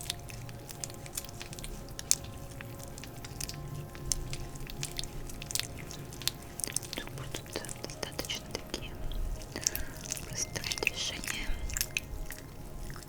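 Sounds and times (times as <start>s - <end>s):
faint background music: 0.0s - 13.0s
oily hands massaging skin: 0.0s - 13.0s.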